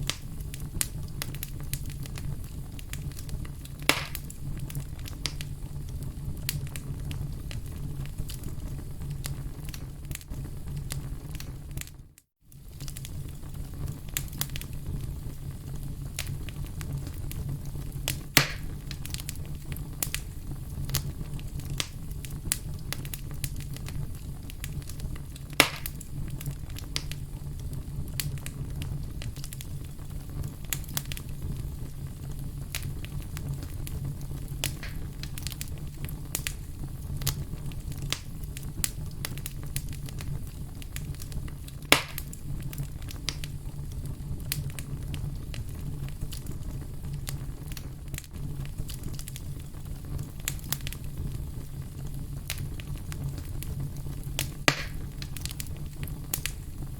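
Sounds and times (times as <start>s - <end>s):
low rumble of burning: 0.0s - 56.9s
wood fire crackling and popping: 0.0s - 56.9s.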